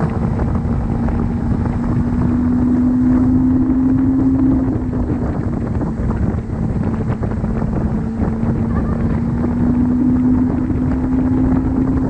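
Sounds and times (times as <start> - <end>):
motorboat engine running: 0.0 - 12.0
wind on microphone: 0.0 - 12.0.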